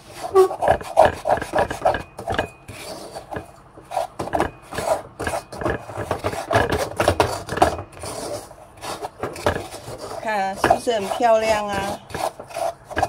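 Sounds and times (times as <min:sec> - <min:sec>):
wooden spatula scraping sugar in pan: 0:00.0 - 0:13.0.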